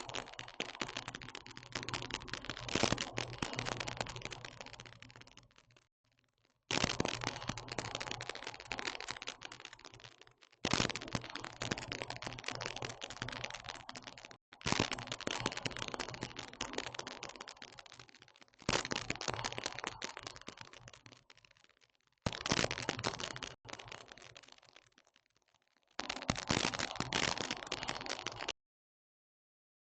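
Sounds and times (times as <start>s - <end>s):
dense crackling and rapid clicking: 0.0s - 28.6s.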